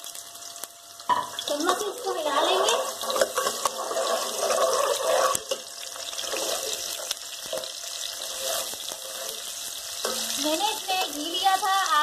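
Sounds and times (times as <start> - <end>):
onions sizzling in a pot: 0.0 - 12.0.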